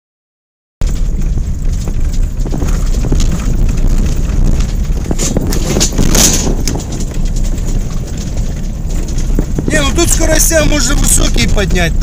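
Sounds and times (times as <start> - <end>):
engine and tyres rumbling: 0.8 - 12.0
vehicle knocks and rattles: 0.8 - 12.0.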